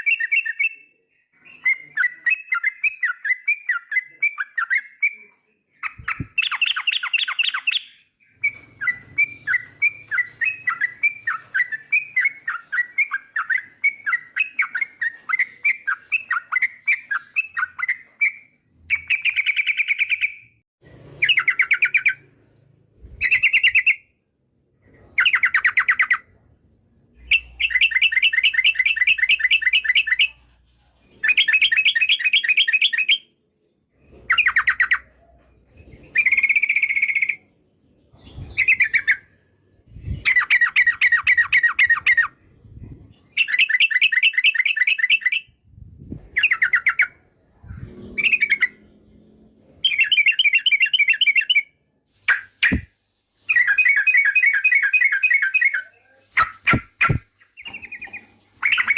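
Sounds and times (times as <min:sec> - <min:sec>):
bird singing chattering phrases: 0:00.0 - 0:20.6, 0:27.2 - 0:33.3, 0:34.2 - 0:45.6, 0:46.2 - 0:51.7, 0:53.5 - 0:58.9.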